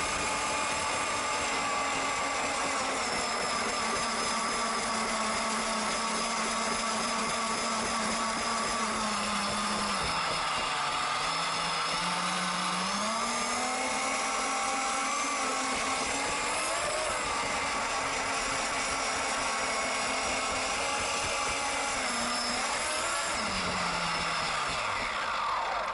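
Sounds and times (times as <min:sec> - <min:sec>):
toy speedboat motor whining: 0:00.0 - 0:25.9.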